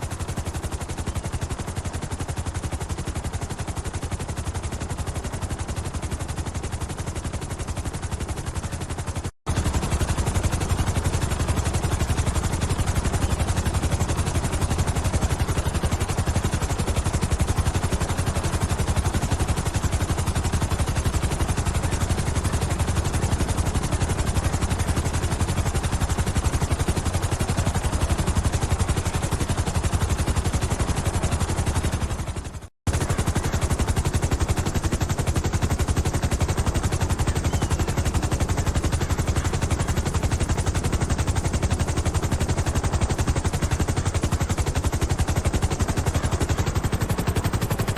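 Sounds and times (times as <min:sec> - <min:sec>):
helicopter rotors chopping: 0:00.0 - 0:47.9.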